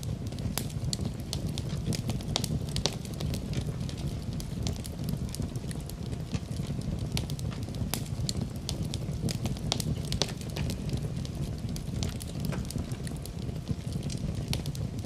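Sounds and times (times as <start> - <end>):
fire crackling: 0.0 - 15.0
wood popping and snapping: 0.6 - 14.8.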